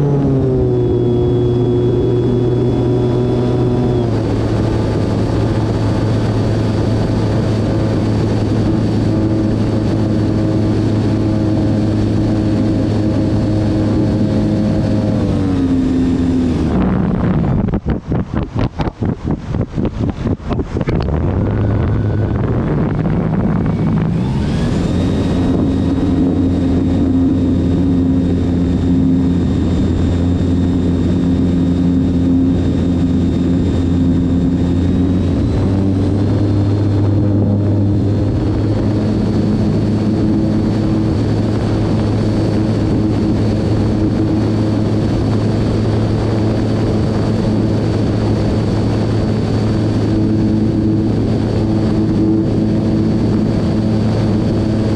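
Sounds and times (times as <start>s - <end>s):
electric motor and propeller whine: 0.0s - 54.9s.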